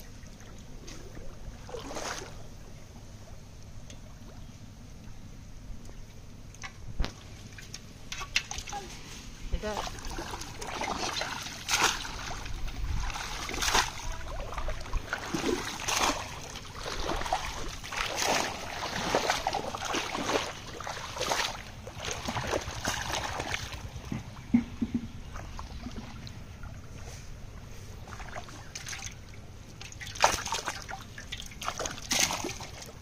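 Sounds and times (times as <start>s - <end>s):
pond water splashing: 0.0s - 33.0s.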